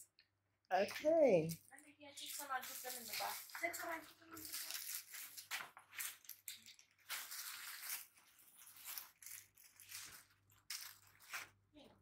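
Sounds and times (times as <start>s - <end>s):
rustling and crunching: 1.5s - 12.0s.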